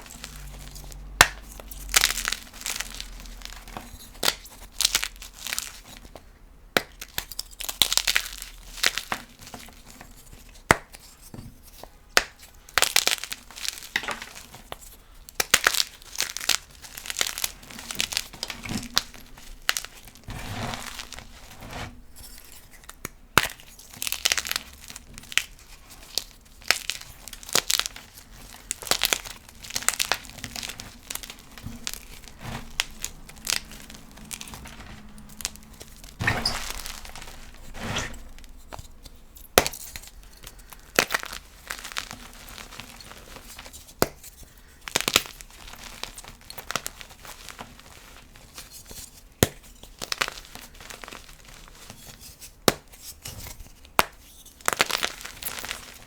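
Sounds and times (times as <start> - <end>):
chalk crunching and crumbling: 0.0 - 6.2, 6.8 - 56.0.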